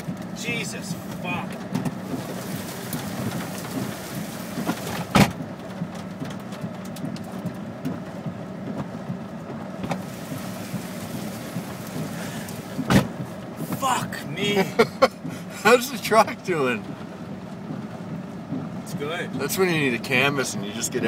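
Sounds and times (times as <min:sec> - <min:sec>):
rain and hail drumming on car roof: 0:00.0 - 0:21.0.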